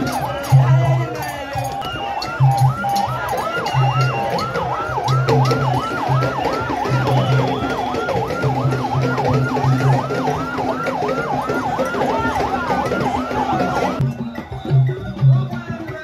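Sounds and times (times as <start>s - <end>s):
yelping siren: 0.0s - 15.6s
marching crowd noise: 0.0s - 16.0s.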